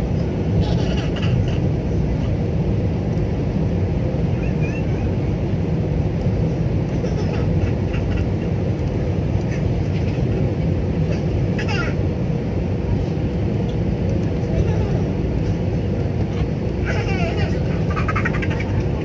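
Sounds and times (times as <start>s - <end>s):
jet cabin engine roar: 0.0s - 19.0s.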